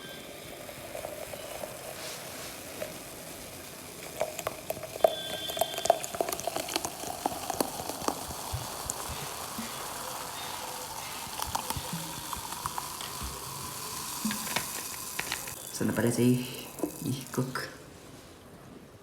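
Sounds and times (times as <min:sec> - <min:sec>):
soda fizzing: 0:00.0 - 0:18.2.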